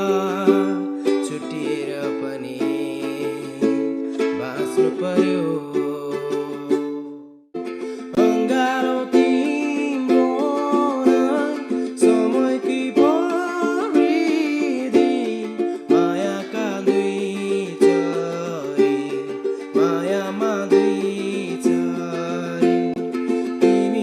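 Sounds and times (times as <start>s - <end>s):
ukulele strummed in chords: 0.0s - 24.0s.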